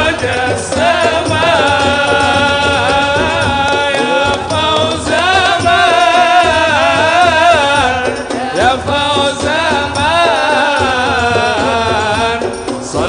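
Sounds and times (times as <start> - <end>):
man singing devotional song: 0.0 - 13.0
musical accompaniment: 0.0 - 13.0.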